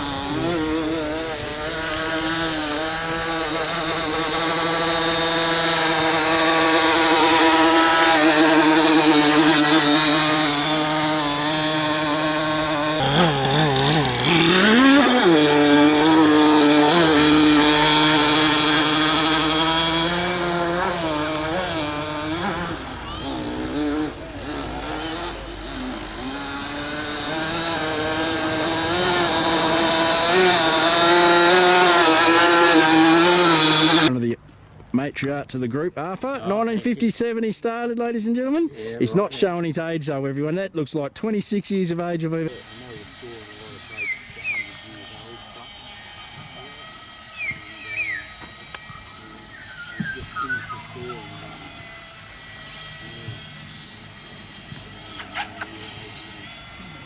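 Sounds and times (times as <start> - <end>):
small model boat engine running: 0.0 - 34.1, 42.1 - 57.0.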